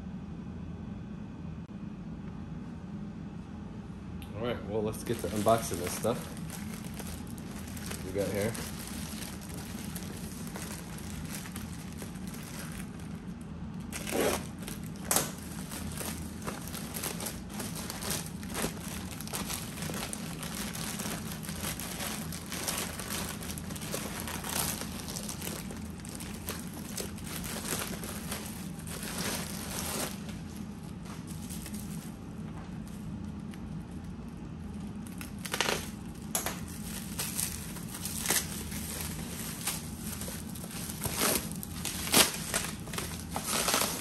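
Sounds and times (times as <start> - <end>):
low hum: 0.0 - 44.0
plastic bags crinkling: 4.8 - 44.0.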